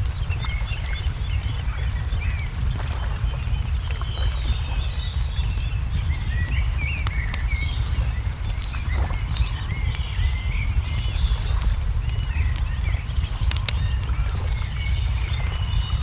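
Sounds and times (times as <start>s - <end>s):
small birds chirping: 0.0s - 16.0s
steady low rumble: 0.0s - 16.0s
wood fire crackling: 0.0s - 16.0s.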